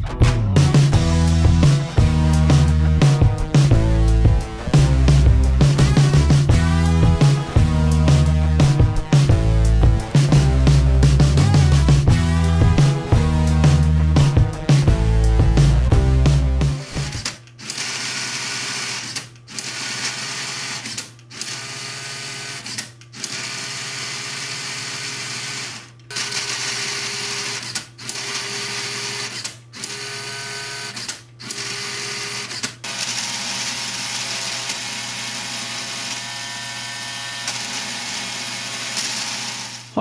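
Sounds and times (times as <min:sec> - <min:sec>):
electric motor and gears whirring: 0:00.9 - 0:39.9.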